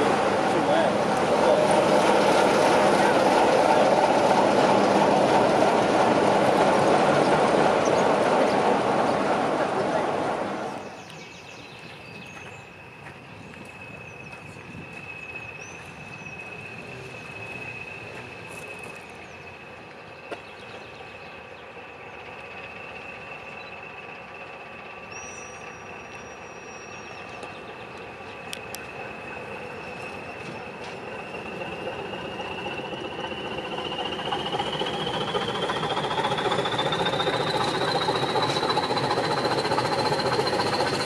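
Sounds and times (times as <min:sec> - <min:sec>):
diesel locomotive rumbling: 0:00.0 - 0:41.0
birds chirping: 0:07.1 - 0:41.0.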